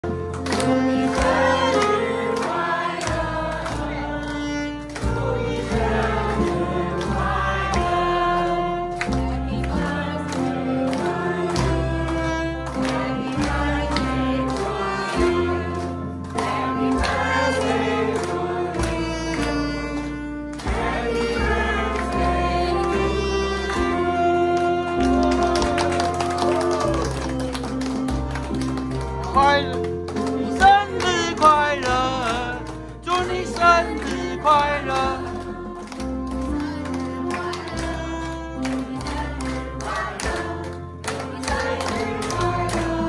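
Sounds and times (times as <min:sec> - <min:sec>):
song with singing voices: 0:00.6 - 0:27.9, 0:29.3 - 0:43.0.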